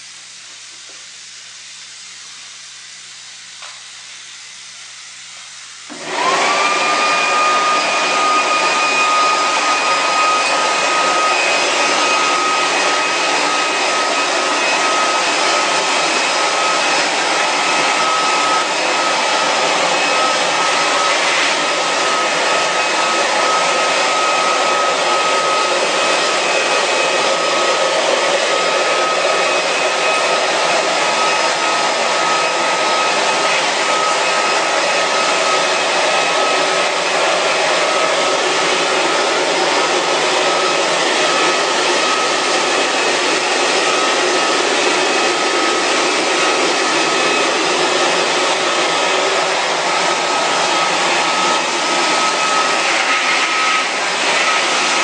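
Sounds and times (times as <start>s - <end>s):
electric fan motor whine: 0.0s - 55.0s.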